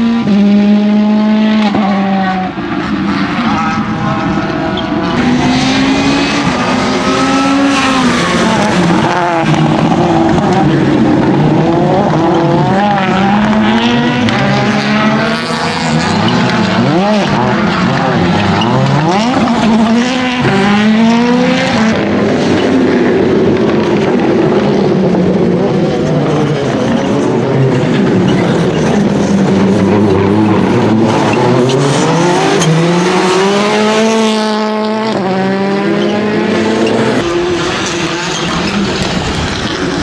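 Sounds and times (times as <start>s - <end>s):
rally car engine driven hard: 0.0s - 40.0s.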